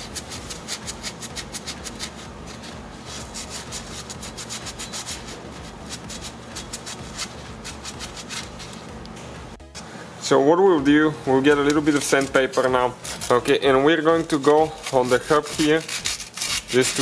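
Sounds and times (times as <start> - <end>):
rag scrubbing a metal hub: 0.0 - 8.9, 11.5 - 17.0.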